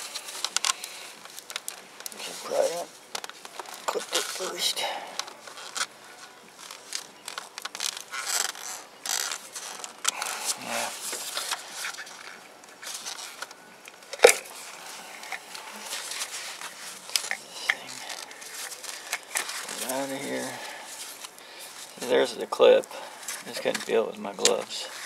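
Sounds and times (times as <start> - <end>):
rustling and scraping: 0.0 - 25.0.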